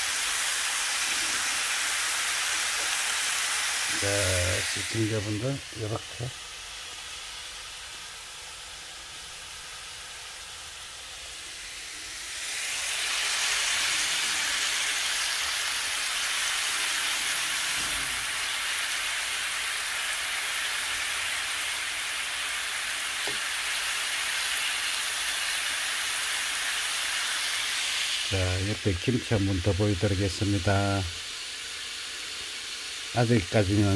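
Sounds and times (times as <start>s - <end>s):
meat sizzling in a frying pan: 0.0s - 33.9s.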